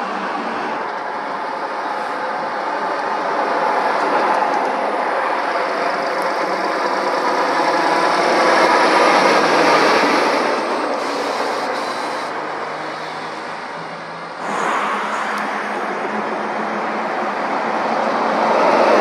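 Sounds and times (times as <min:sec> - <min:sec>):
vehicle approaching loudly: 0:00.0 - 0:19.0.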